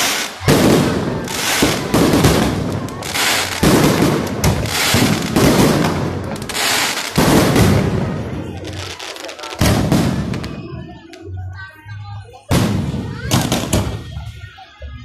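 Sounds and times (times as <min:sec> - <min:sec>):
fireworks bursting: 0:00.0 - 0:11.3, 0:12.4 - 0:14.3.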